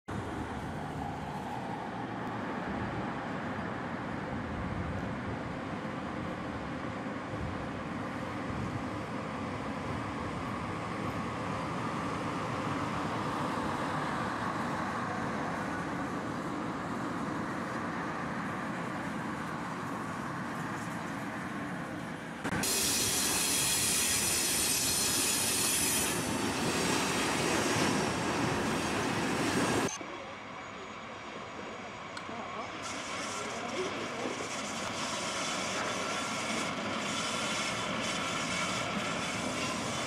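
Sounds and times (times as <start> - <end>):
locomotive and wheels rumbling: 0.1 - 40.0.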